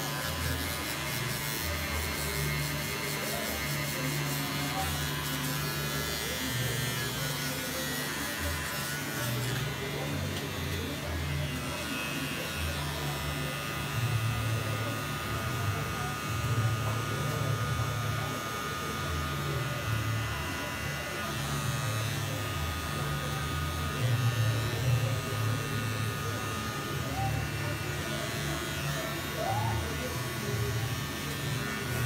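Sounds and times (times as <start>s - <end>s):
electric hair clippers buzzing: 0.0s - 32.0s.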